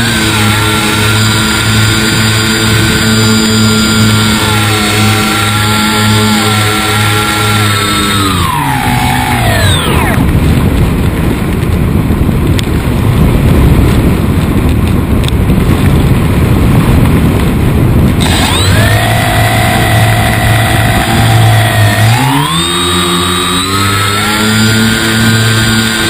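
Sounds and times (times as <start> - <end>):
motor and propeller whine: 0.0 - 26.0
wind buffeting camera: 0.0 - 26.0.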